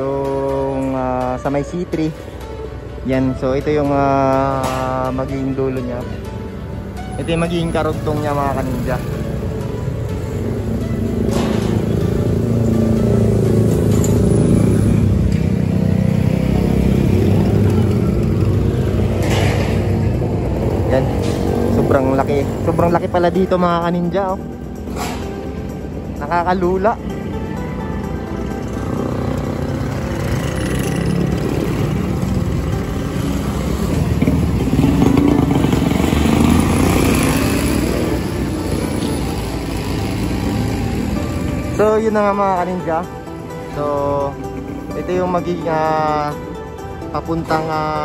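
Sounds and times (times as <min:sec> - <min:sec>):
motorcycle engines in traffic: 0:00.0 - 0:48.0.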